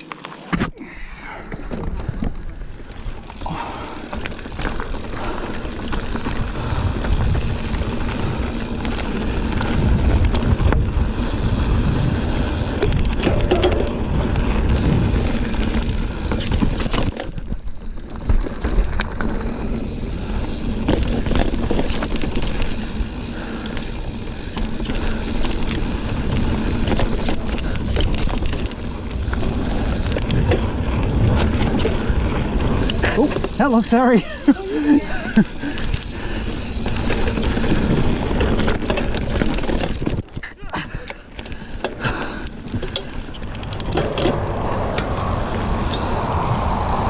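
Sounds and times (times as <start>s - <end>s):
bike rattling clicks and knocks: 0.0s - 47.0s
bike tyres rumbling on dirt: 0.0s - 47.0s.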